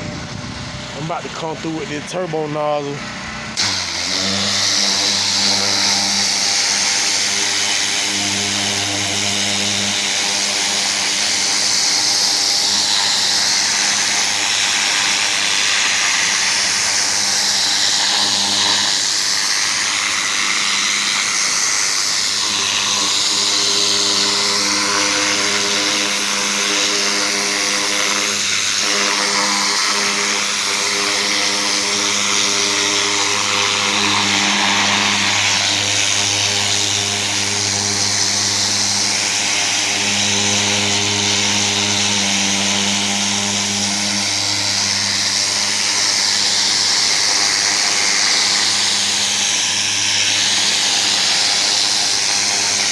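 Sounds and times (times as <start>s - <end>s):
pressure washer engine running: 0.0s - 52.9s
high-pressure water spray hissing: 3.5s - 52.9s.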